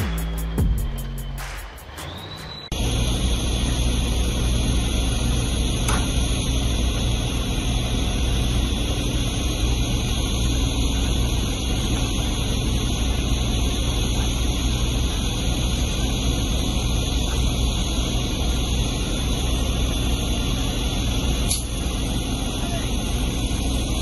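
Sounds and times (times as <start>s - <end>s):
diesel machinery rumbling: 0.0s - 24.0s.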